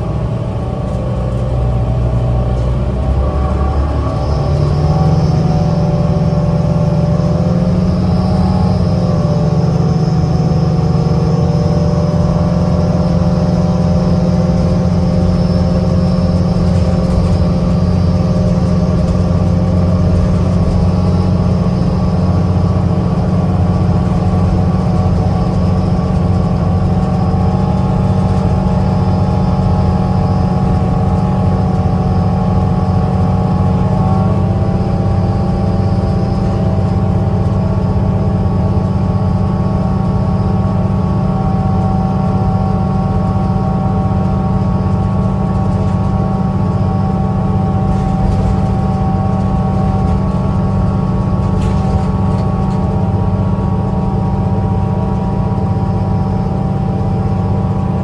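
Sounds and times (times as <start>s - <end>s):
bus engine and road drone: 0.0s - 58.0s.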